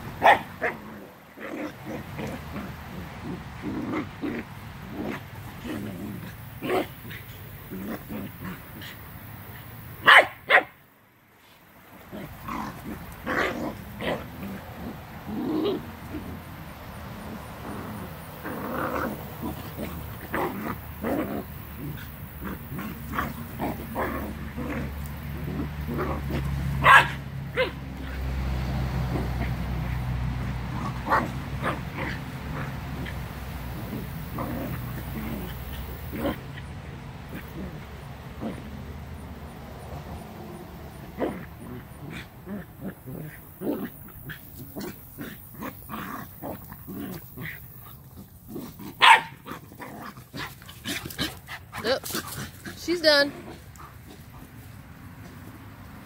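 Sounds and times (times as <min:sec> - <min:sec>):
dogs play growling: 0:00.0 - 0:10.2, 0:11.3 - 0:56.0
dogs barking and yipping: 0:00.0 - 0:10.8, 0:12.2 - 0:38.8, 0:40.5 - 0:55.8.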